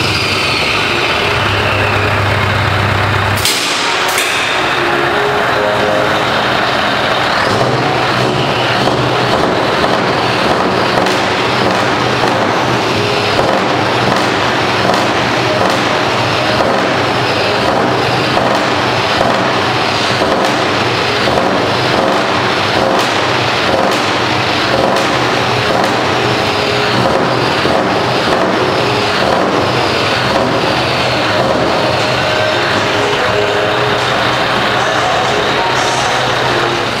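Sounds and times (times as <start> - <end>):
diesel engine rumbling with crackles: 0.0 - 37.0.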